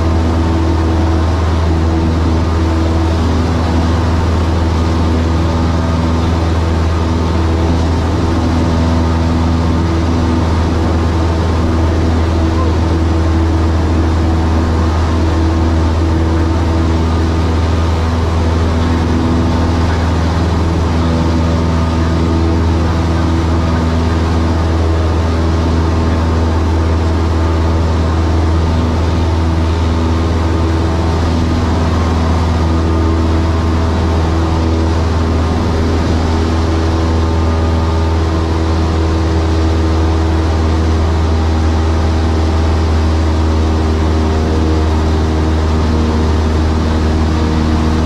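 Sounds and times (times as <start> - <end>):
propeller plane engine droning: 0.0 - 48.0.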